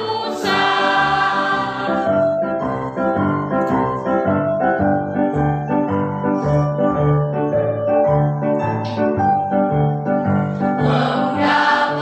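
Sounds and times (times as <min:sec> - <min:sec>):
piano march-style instrumental: 0:00.0 - 0:12.0.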